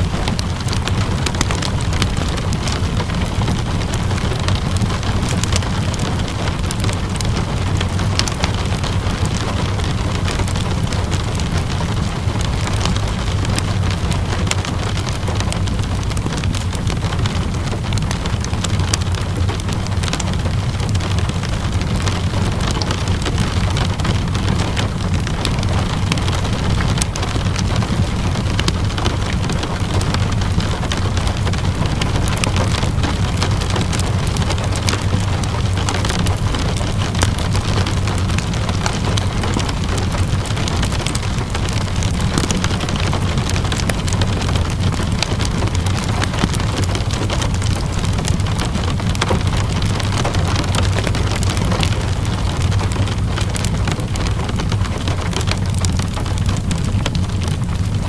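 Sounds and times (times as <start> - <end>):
low constant rumble: 0.0 - 58.0
steady rain: 0.0 - 58.0
wood fire crackling: 0.0 - 58.0.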